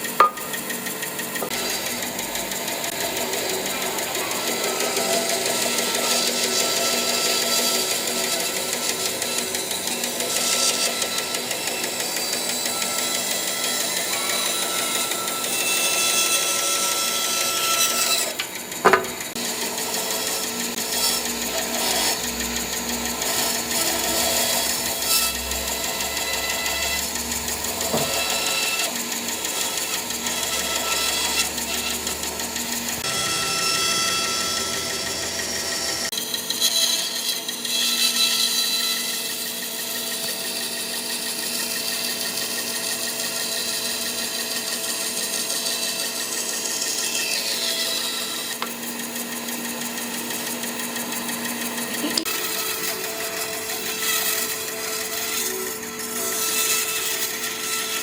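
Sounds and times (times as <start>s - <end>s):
power tool whining and grinding: 0.0s - 58.0s.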